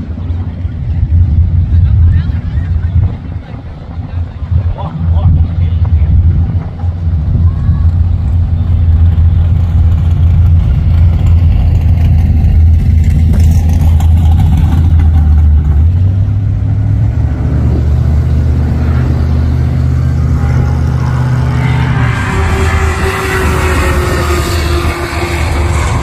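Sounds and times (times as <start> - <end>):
car engines revving and accelerating: 0.0 - 26.0.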